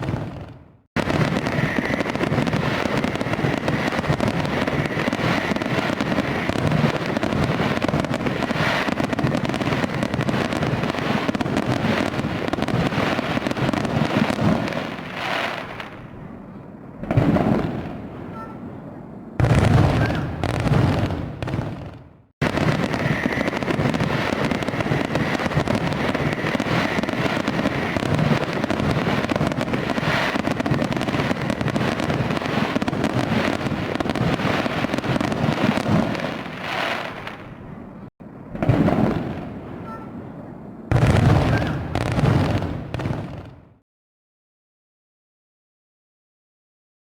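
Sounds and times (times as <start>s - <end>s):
fireworks crackling and banging: 0.0s - 43.8s.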